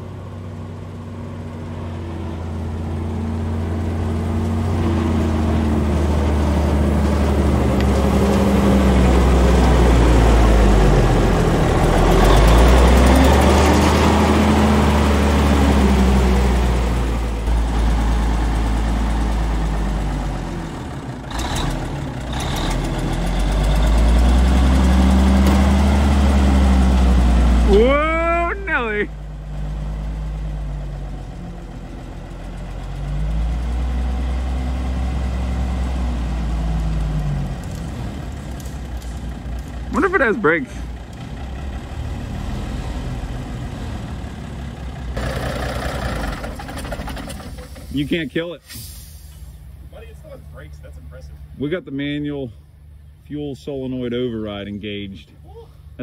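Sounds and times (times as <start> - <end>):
diesel truck engine running: 0.0 - 55.1.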